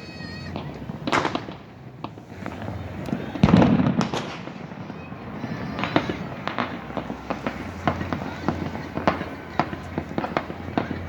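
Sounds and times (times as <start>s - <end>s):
fireworks crackling pops: 0.0s - 11.0s
deep firework boom: 0.5s - 11.0s.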